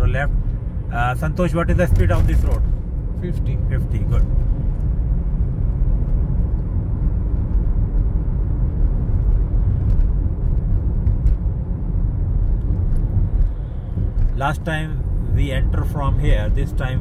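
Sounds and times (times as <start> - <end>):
car interior road noise: 0.0 - 17.0.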